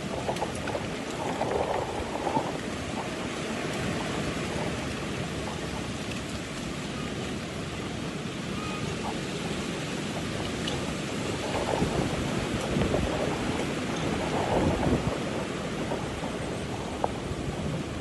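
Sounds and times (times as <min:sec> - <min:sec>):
wind blowing across microphone: 0:00.0 - 0:18.0.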